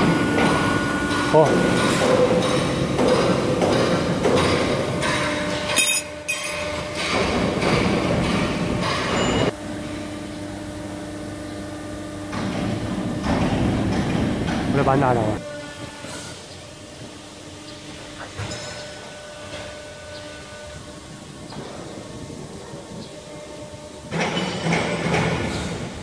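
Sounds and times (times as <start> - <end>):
hydraulic press humming: 0.0 - 26.0.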